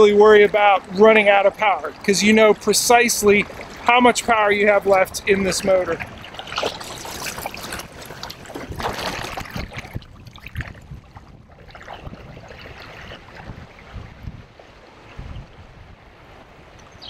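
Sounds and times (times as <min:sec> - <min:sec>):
water lapping: 0:00.0 - 0:17.0
water rushing and splashing: 0:00.0 - 0:17.0.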